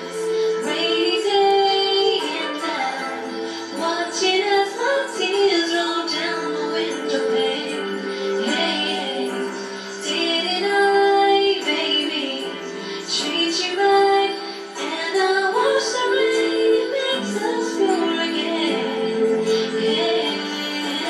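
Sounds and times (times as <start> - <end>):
woman singing pop song: 0.0 - 21.0.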